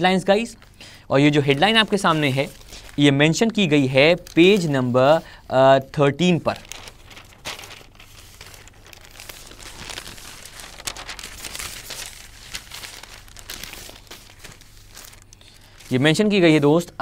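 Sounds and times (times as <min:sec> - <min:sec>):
newspaper rustling and crinkling: 0:00.2 - 0:17.0.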